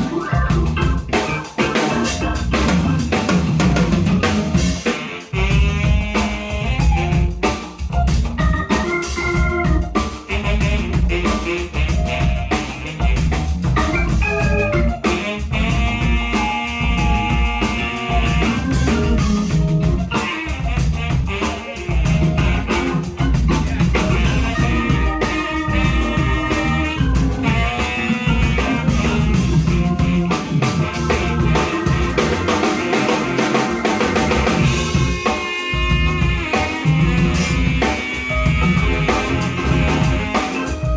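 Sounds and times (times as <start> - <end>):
bass: 0.0 - 40.9
drum kit groove: 0.0 - 40.9
guitar: 0.0 - 40.9
saxophone: 0.0 - 40.9
trumpet: 0.0 - 40.9.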